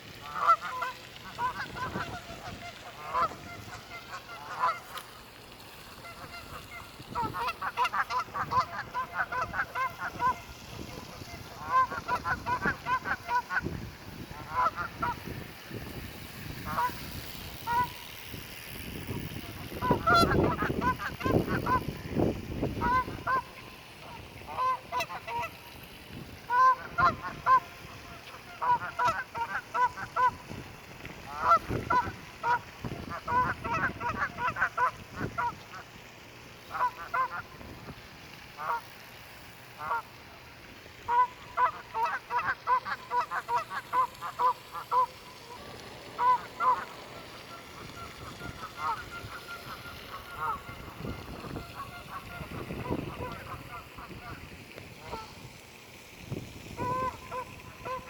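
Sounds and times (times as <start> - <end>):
geese honking: 0.2 - 5.2, 5.8 - 15.8, 16.6 - 18.1, 19.2 - 30.5, 31.3 - 35.9, 36.6 - 37.8, 38.6 - 38.9, 39.8 - 40.3, 41.0 - 55.5, 56.8 - 58.0.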